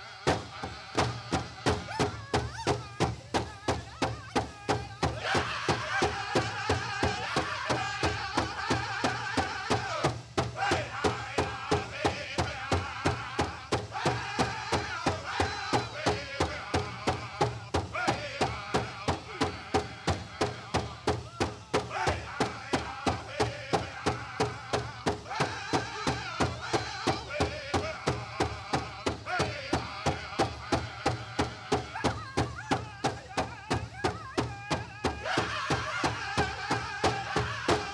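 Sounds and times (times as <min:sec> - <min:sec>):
group singing in unison: 0:00.0 - 0:02.5, 0:04.8 - 0:21.2, 0:21.8 - 0:32.2, 0:34.4 - 0:37.9
big drum beating fast: 0:00.0 - 0:37.9.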